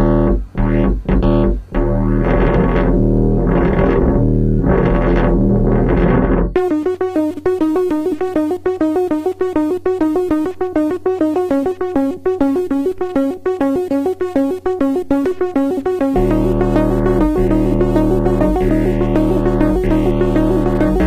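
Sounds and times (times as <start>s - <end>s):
steady low hum: 0.0s - 21.0s
synthesizer playing short clipped notes: 0.0s - 21.0s.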